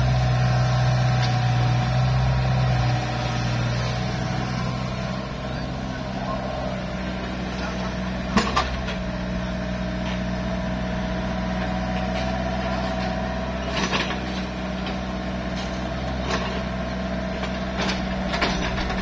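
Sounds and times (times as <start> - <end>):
excavator diesel engine whining: 0.0 - 19.0.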